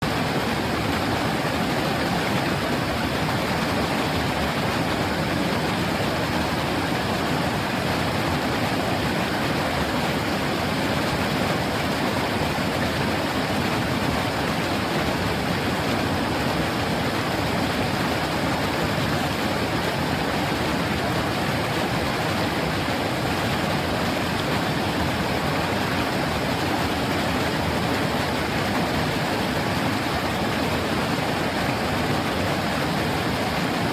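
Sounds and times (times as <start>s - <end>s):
river water babbling: 0.0s - 33.9s.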